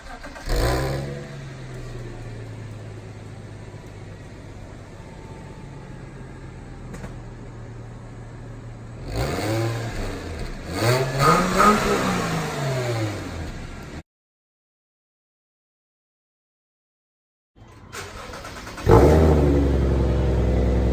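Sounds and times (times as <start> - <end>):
car engine idling and revving: 0.0 - 14.0, 17.7 - 20.9.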